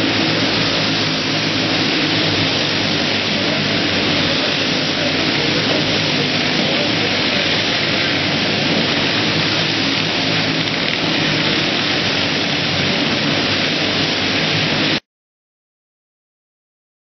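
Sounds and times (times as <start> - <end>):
go-kart engines running flat out: 0.0 - 15.0.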